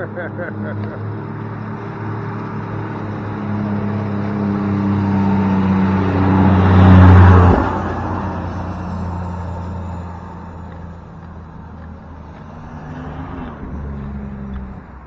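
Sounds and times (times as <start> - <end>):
car engine: 0.0 - 15.0
road noise: 0.0 - 15.0.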